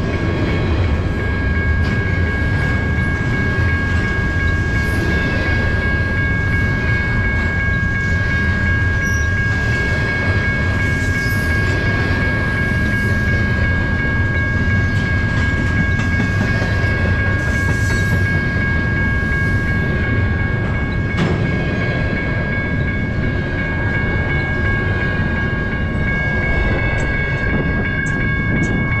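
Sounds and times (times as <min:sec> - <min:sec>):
steady high-pitched tones: 0:00.0 - 0:29.0
train wheels rumbling on rails: 0:00.0 - 0:29.0.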